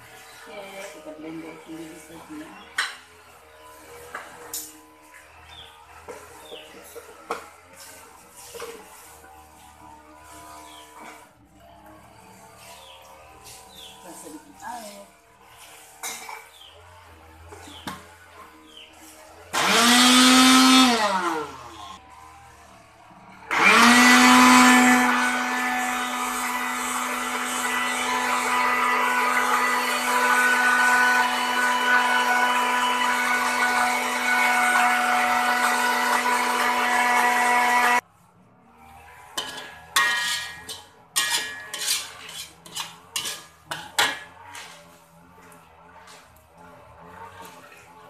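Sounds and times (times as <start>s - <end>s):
metal spatula scraping wok: 0.0s - 38.0s, 38.8s - 48.0s
blender running: 0.0s - 38.1s, 42.6s - 48.0s.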